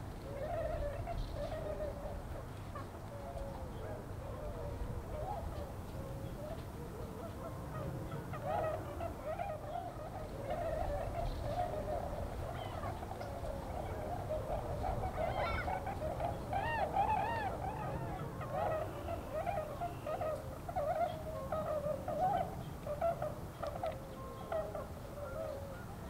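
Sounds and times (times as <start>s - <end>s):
swans honking: 0.0s - 26.0s.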